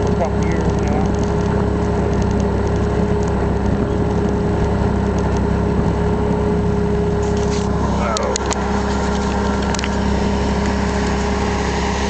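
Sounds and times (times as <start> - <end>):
skid loader engine running: 0.0 - 12.0
steady high hum: 0.0 - 12.0.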